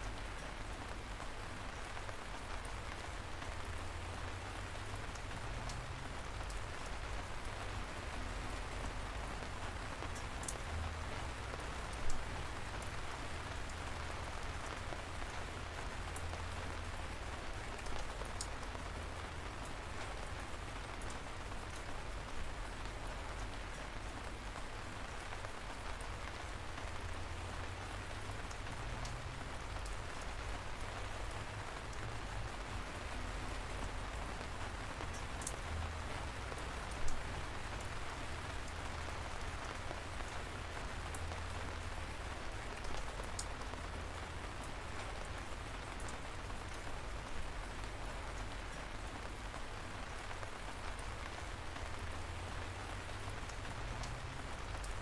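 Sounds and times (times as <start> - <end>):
light rain falling: 0.0 - 55.0
raindrops ticking: 0.0 - 55.0.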